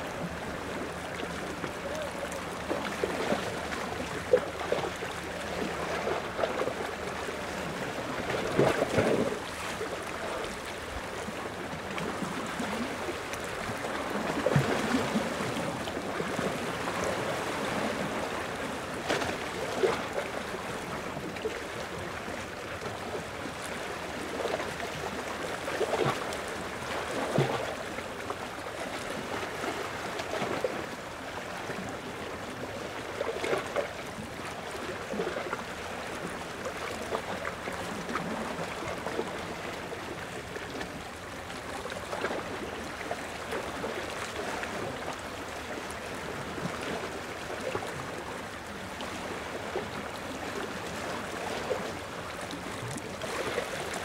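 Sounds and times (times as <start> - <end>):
small waves lapping at shore: 0.0 - 54.0.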